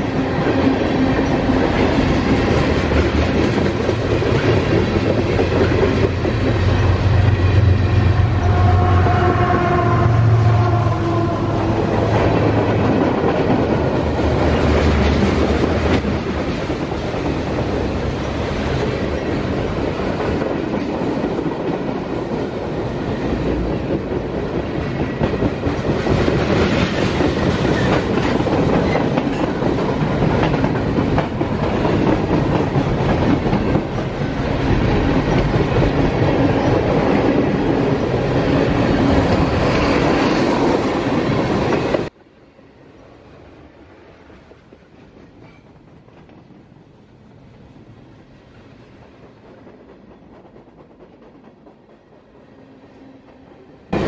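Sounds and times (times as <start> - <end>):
diesel locomotive drone: 0.0 - 54.0.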